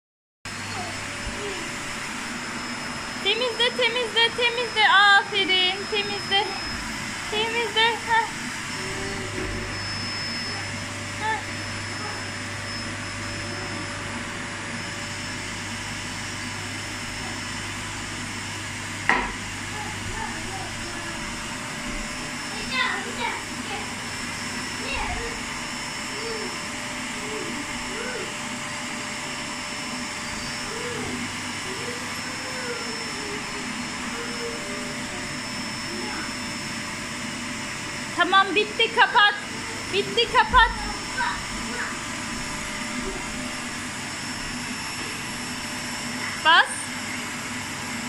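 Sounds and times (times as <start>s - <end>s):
vacuum brush on rug: 0.5s - 48.0s
vacuum cleaner running: 0.5s - 48.0s.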